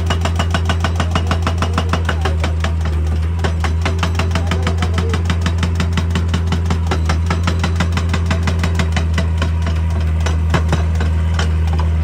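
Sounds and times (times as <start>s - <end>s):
diesel engine running: 0.0s - 12.0s
hydraulic breaker hammering rock: 0.0s - 12.0s.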